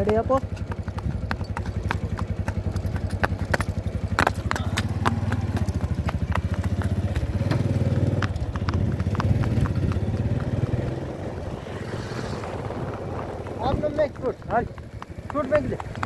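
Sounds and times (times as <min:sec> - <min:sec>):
hooves clip-clopping on asphalt: 0:00.0 - 0:16.0
motorcycle engine running: 0:00.0 - 0:16.0.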